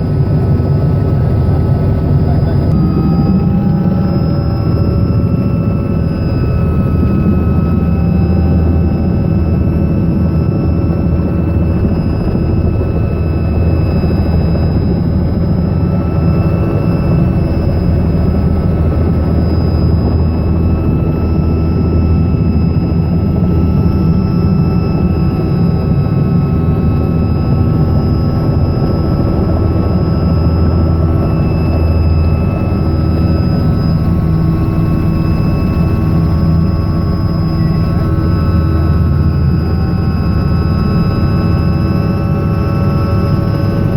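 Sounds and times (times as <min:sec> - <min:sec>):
helicopter rotor drone: 0:00.0 - 0:43.9
high turbine whine: 0:00.0 - 0:43.9.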